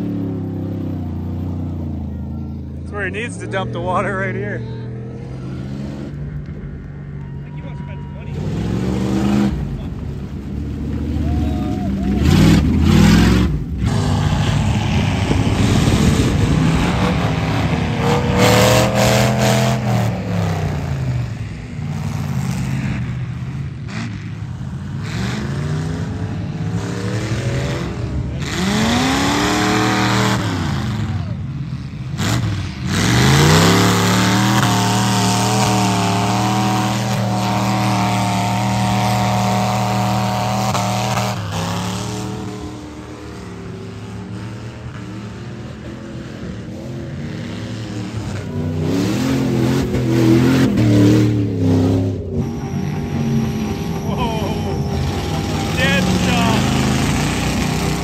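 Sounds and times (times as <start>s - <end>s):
engines revving: 0.0s - 58.0s.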